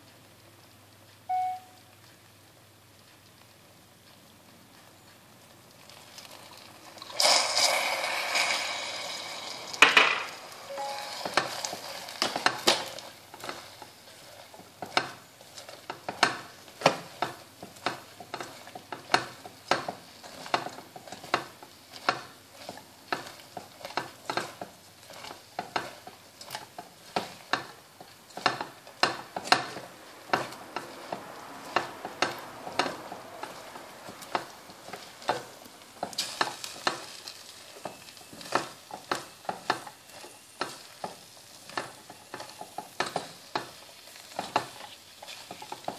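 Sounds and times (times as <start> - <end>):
caramel hissing and sizzling: 2.1 - 45.9
spatula scraping saucepan: 7.2 - 45.9.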